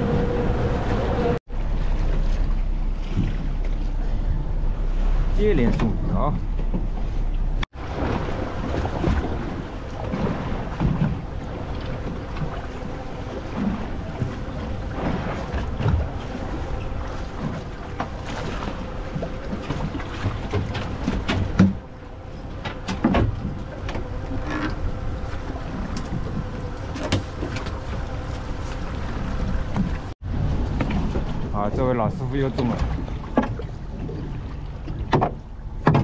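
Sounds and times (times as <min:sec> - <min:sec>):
water washing around hull: 0:00.0 - 0:36.0.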